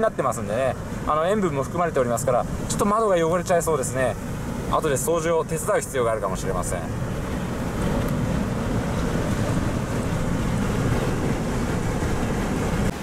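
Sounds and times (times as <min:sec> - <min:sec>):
gusting wind: 0:00.0 - 0:13.0
waves breaking over seawall: 0:00.0 - 0:13.0.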